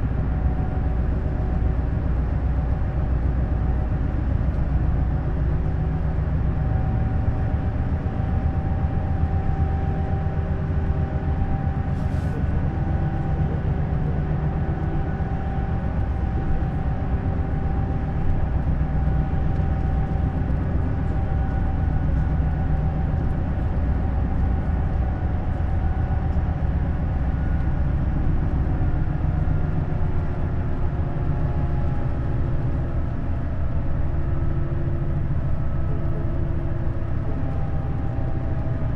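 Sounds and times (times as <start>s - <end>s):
coach engine and road rumble: 0.0s - 38.9s.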